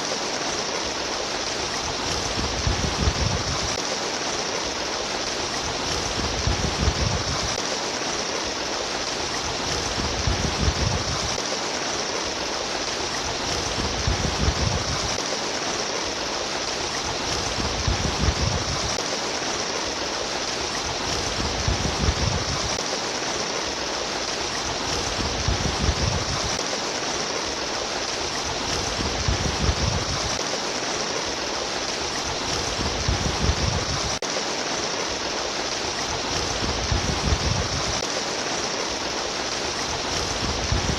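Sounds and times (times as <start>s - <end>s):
stream water rushing and splashing: 0.0s - 40.9s.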